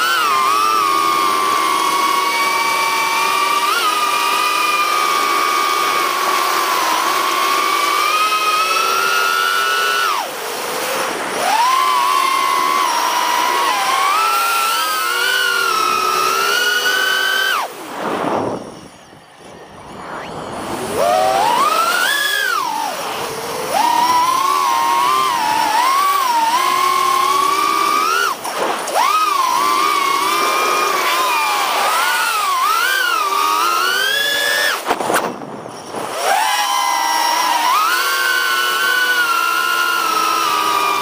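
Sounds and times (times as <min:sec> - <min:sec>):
quadcopter propellers whining: 0:00.0 - 0:41.0.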